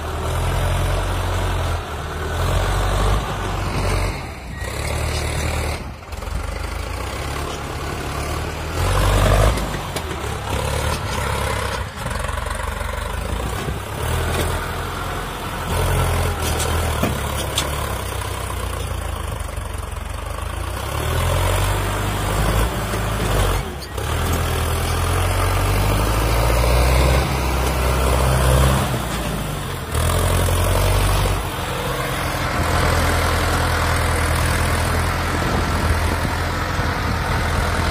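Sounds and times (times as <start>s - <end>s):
tractor diesel engine labouring: 0.0s - 37.9s.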